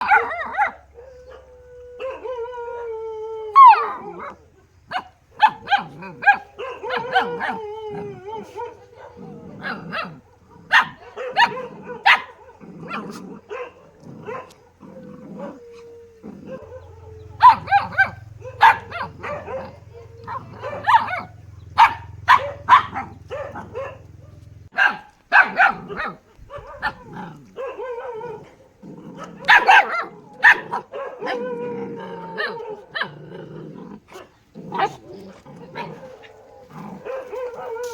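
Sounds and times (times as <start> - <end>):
dog barking: 0.0 - 2.3, 3.6 - 7.6, 8.4 - 33.2, 34.1 - 35.0, 35.6 - 37.9
dog howling: 0.0 - 33.4, 34.6 - 37.9.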